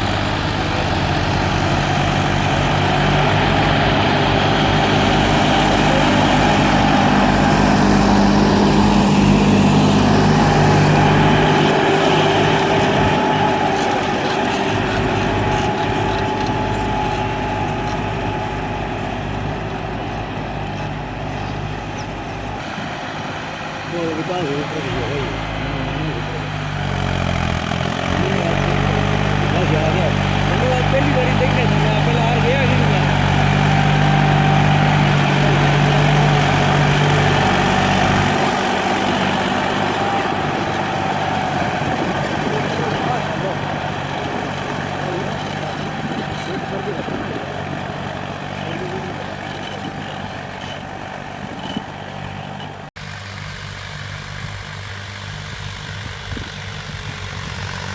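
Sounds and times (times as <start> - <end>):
diesel tractor engine running: 0.0 - 57.9.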